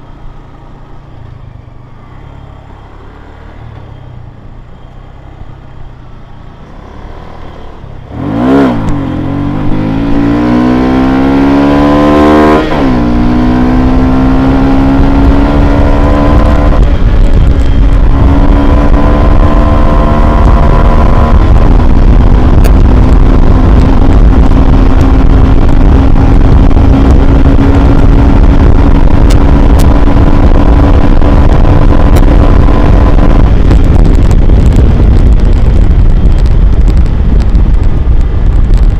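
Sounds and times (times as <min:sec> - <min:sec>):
motorcycle engine accelerating: 0:00.0 - 0:38.9
wind noise on microphone: 0:03.6 - 0:38.9.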